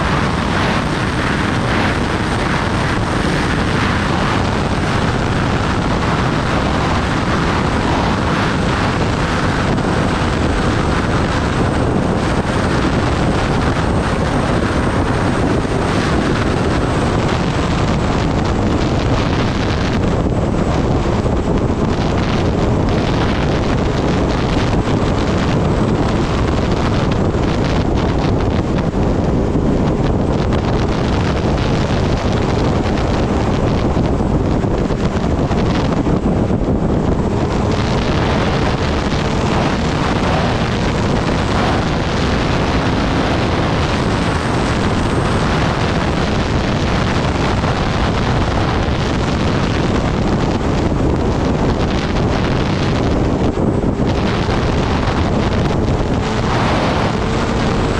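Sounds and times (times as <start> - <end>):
motorcycle engine running: 0.0 - 57.9
wind buffeting microphone: 0.0 - 57.9.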